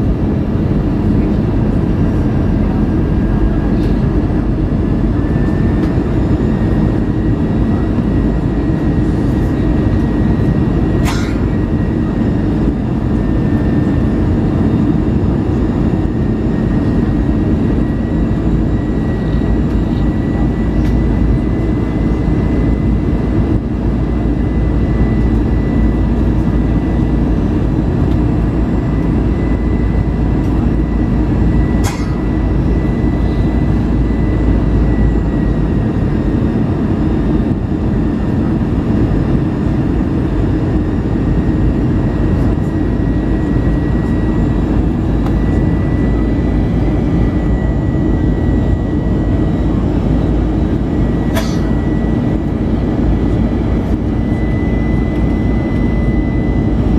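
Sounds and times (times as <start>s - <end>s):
airplane cabin airflow and engines: 0.0s - 56.9s
thin steady whine: 0.0s - 56.9s.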